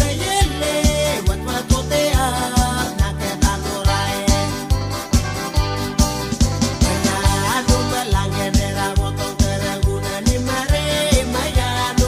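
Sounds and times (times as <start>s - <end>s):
steady kick drum: 0.0s - 11.7s
bass line: 0.0s - 12.0s.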